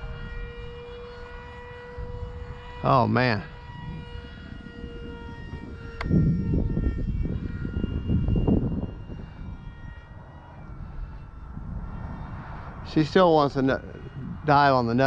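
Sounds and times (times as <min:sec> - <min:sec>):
electric ducted fans whining: 0:00.0 - 0:15.0
wind buffeting microphone: 0:00.0 - 0:15.0.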